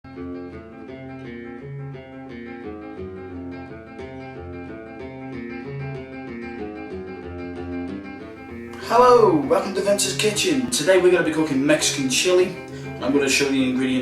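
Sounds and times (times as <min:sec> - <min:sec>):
acoustic guitar plucking: 0:00.1 - 0:14.0.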